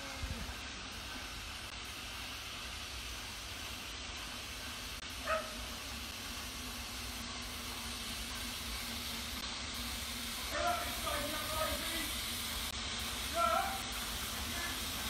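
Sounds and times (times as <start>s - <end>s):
steam locomotive hiss and rumble: 0.0s - 15.0s.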